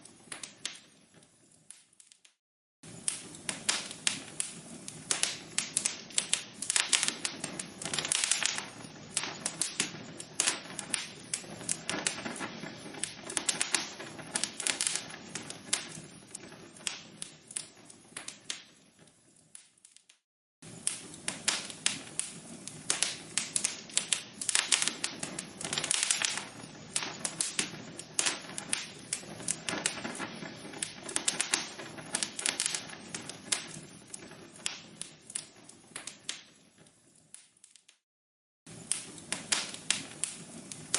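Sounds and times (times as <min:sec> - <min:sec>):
log fire crackling: 0:00.0 - 0:38.0, 0:38.7 - 0:40.9.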